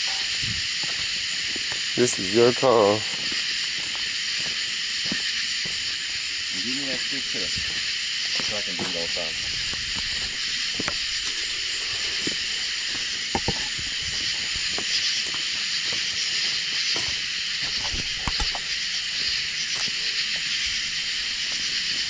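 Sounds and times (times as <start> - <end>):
night insects chorus: 0.0 - 22.0.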